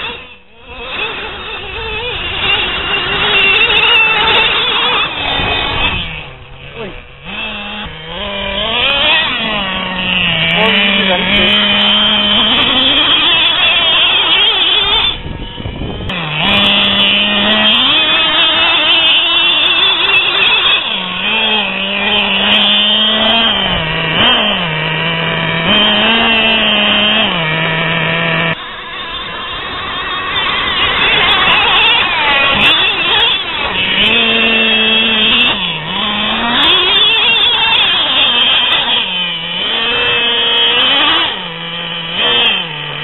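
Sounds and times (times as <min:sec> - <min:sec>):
small nitro engine running hard: 0:00.0 - 0:43.0.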